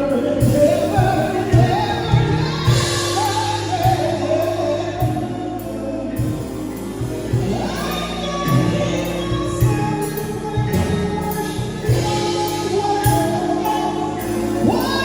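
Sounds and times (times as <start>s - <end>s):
band with steady drum beat: 0.0s - 15.0s
gospel choir singing: 0.0s - 15.0s.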